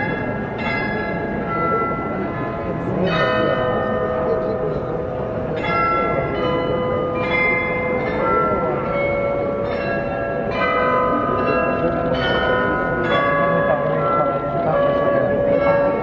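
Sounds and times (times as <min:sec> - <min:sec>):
tuned bells playing slow tune: 0:00.0 - 0:16.0.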